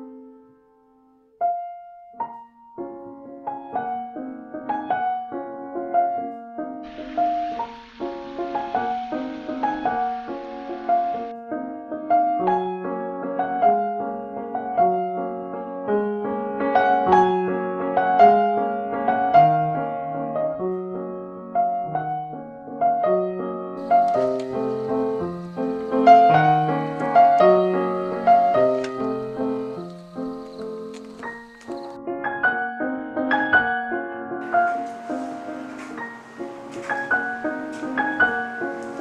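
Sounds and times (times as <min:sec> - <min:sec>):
solo piano music: 0:00.0 - 0:39.0.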